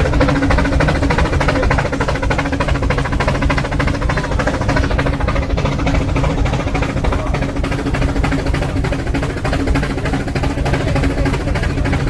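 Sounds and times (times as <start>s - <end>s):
steady low hum: 0.0s - 12.0s
steam locomotive exhaust puffing: 0.0s - 12.0s.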